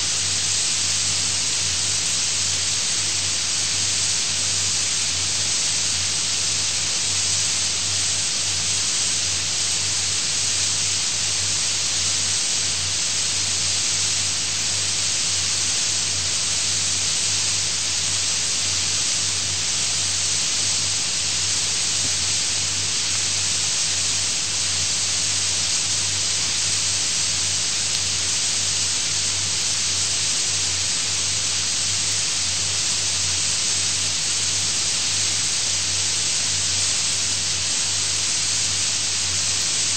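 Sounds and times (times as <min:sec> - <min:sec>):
recording hiss: 0:00.0 - 0:39.9.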